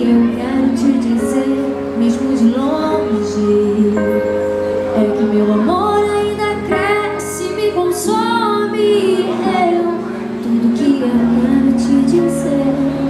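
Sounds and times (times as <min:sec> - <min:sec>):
sustained musical accompaniment: 0:00.0 - 0:13.0
woman singing: 0:00.0 - 0:13.0.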